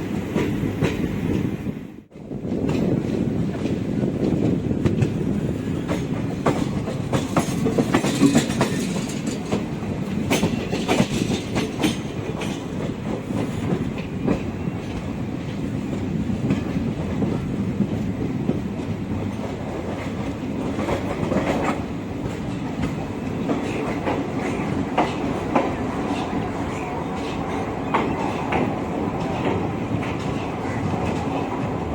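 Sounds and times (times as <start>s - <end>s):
train rumble: 0.0s - 31.9s
wheels clicking over rail joints: 2.5s - 31.9s.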